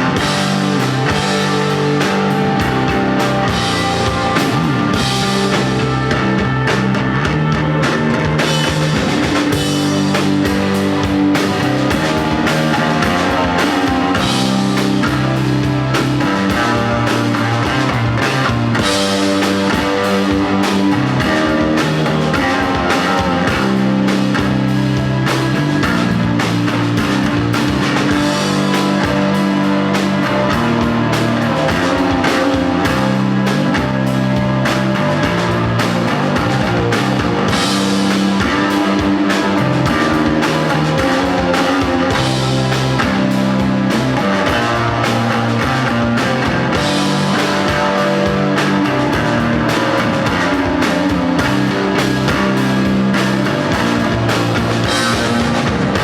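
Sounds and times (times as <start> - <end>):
bass guitar: 0.0 - 56.0
drum kit: 0.0 - 56.0
electric guitar: 0.0 - 56.0.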